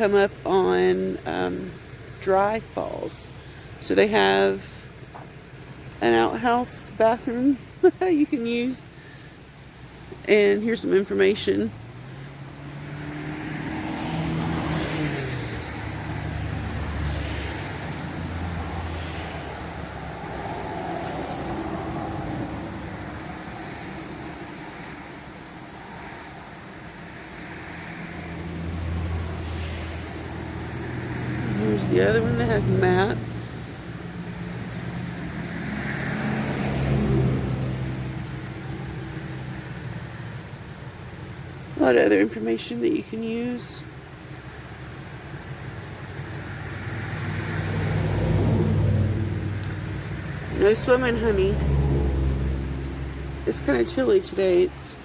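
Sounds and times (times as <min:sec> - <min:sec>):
vehicles driving past: 0:00.0 - 0:55.0.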